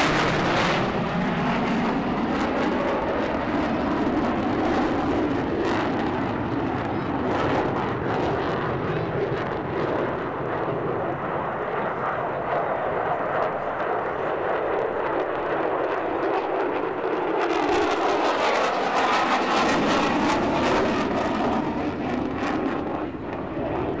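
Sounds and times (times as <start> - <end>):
jet engine rush: 0.0 - 24.0.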